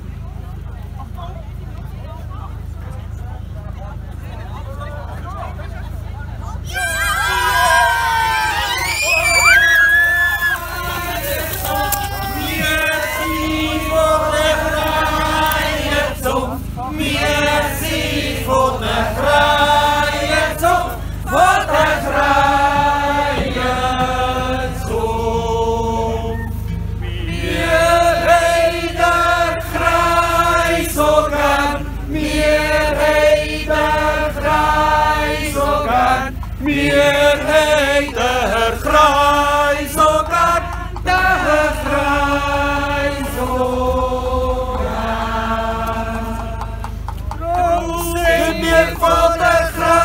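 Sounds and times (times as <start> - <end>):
group singing unaccompanied: 7.3 - 50.0.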